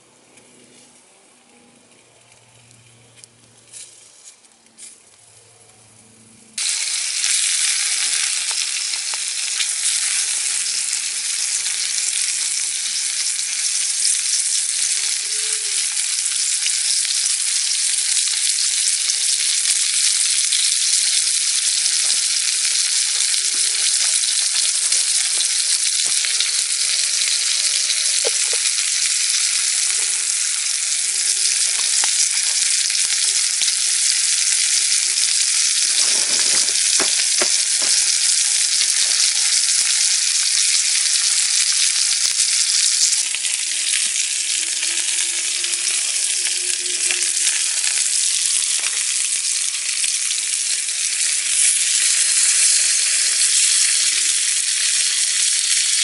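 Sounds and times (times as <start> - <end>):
meatballs sizzling in pan: 5.8 - 56.0.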